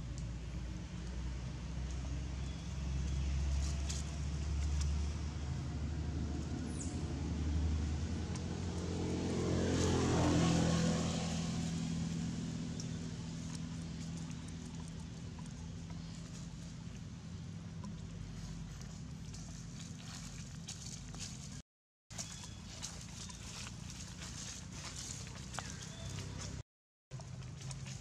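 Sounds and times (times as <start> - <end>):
vehicle engine passing by: 0.0 - 28.0.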